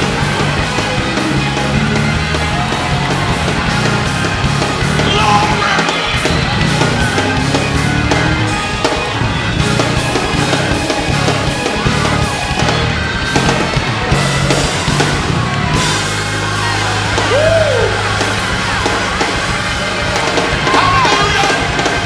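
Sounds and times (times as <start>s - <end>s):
drum kit: 0.0s - 22.0s
held bass line: 0.0s - 22.0s
loud band music: 0.0s - 22.0s.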